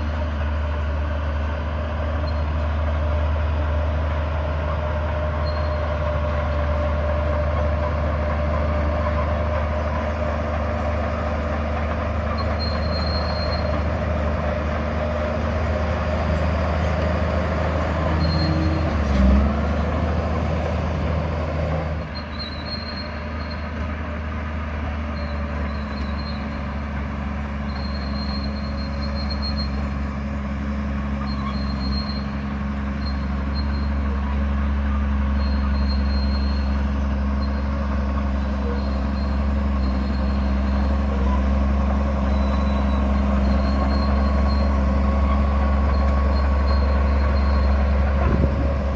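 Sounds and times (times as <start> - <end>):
bulldozer diesel engine running: 0.0 - 48.9.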